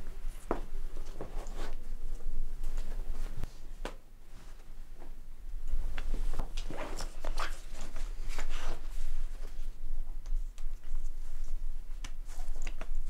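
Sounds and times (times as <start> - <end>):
clothes rustling: 0.0 - 13.0.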